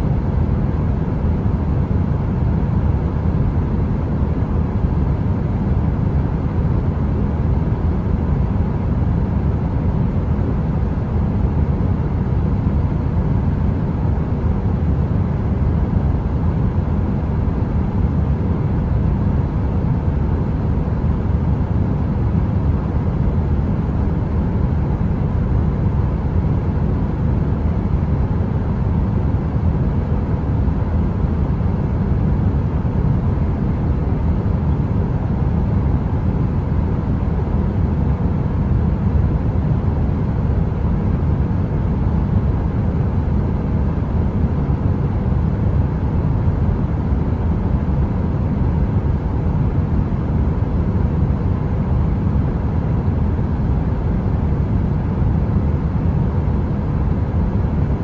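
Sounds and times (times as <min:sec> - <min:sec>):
electric heater fan running: 0:00.0 - 0:58.0.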